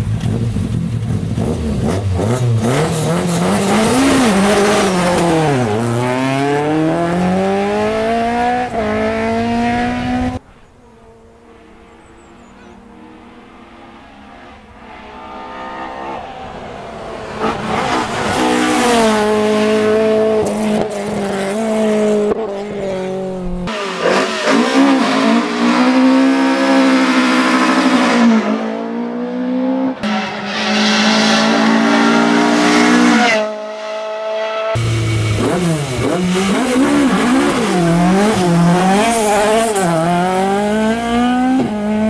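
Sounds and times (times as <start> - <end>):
rally car engine with gear changes: 0.0 - 42.0
rally cars revving and accelerating: 0.0 - 42.0.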